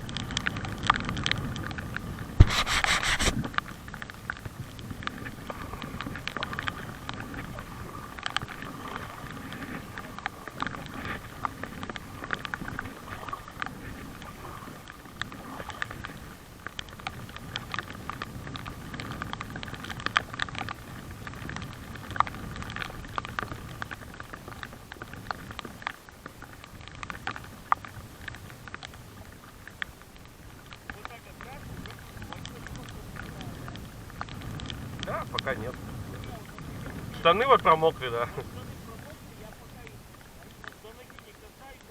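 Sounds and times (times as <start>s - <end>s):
raindrops pattering: 0.0s - 41.9s.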